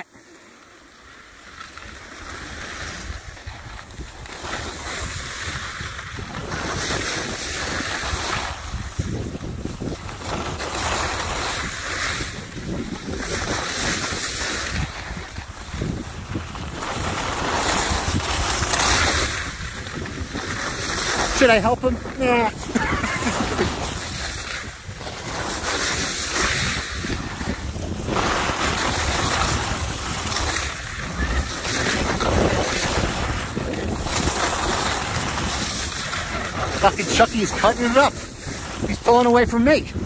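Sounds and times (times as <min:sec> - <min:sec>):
skis scraping on snow: 0:00.0 - 0:40.0
wind buffeting microphone: 0:02.8 - 0:40.0.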